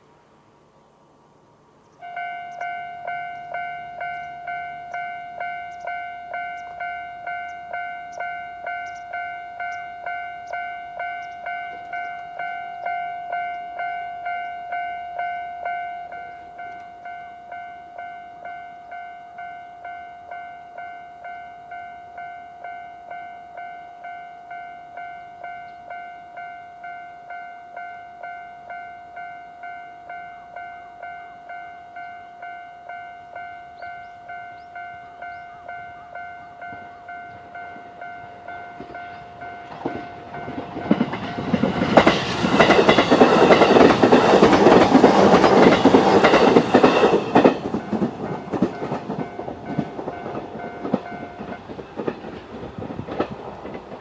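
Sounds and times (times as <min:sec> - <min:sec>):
level crossing warning bell: 0:02.0 - 0:52.4.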